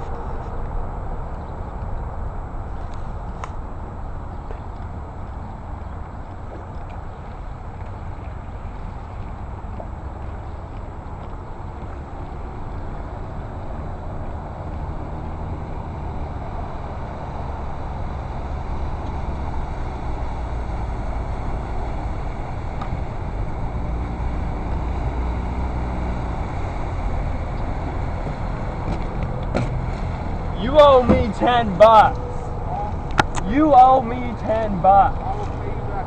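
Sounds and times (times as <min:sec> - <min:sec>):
outboard motor droning: 0:00.0 - 0:36.0.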